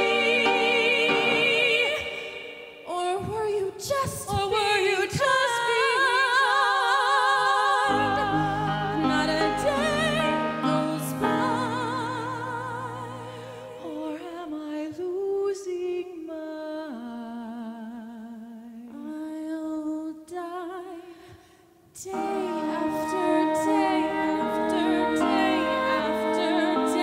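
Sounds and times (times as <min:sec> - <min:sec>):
women singing duet: 0:00.0 - 0:21.4, 0:22.0 - 0:27.0.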